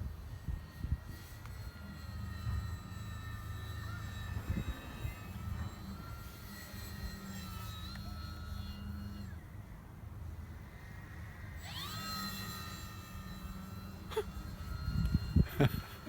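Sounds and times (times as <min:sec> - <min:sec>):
model airplane motor whining: 0:00.0 - 0:16.0.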